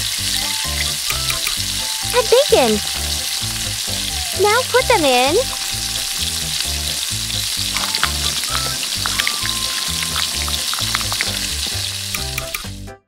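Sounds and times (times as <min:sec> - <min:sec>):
food sizzling in oil: 0:00.0 - 0:12.8.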